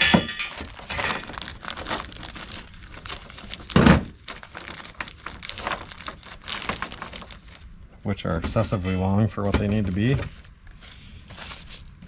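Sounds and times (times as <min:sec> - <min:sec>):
plastic bag crinkling: 0:00.4 - 0:08.4, 0:09.2 - 0:12.0.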